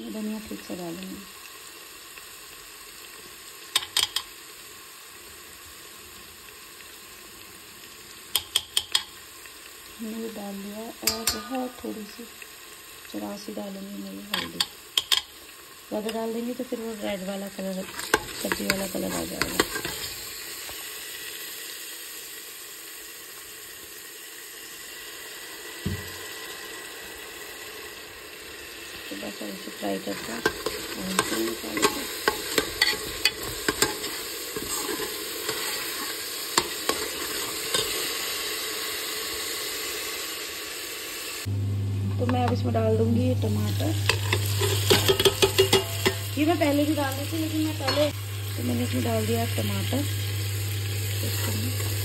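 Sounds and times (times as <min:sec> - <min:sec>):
onions sizzling in oil: 0:00.0 - 0:52.0.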